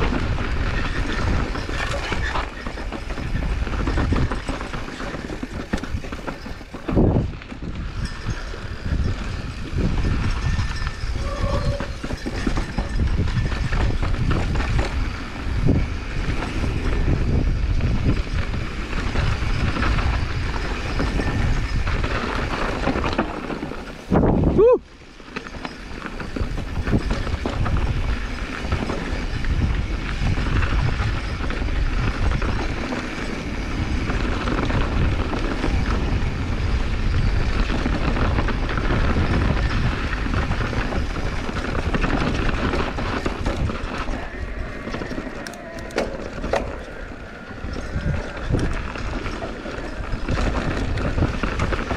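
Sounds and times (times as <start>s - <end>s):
bike rattling over bumps: 0.0s - 51.9s
wind rush on microphone: 0.0s - 51.9s.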